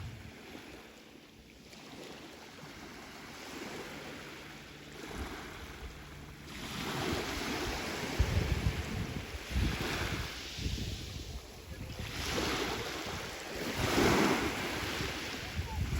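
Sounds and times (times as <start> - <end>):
sea waves on shore: 0.0 - 15.9.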